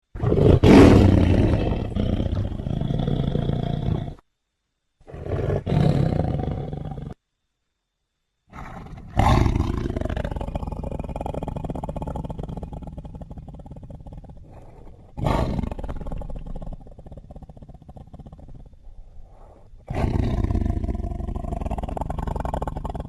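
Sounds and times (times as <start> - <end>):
big cat roaring and growling: 0.2 - 4.2, 5.1 - 7.2, 8.5 - 23.0.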